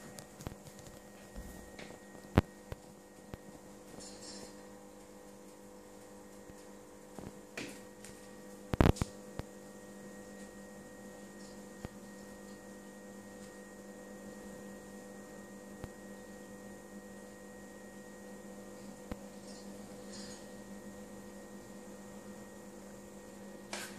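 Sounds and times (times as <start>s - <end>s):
aquarium equipment humming: 0.0s - 23.9s.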